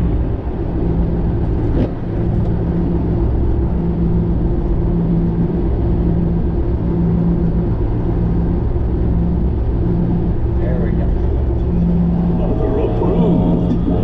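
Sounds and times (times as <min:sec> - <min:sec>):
car engine droning: 0:00.0 - 0:14.0
road rumble: 0:00.0 - 0:14.0.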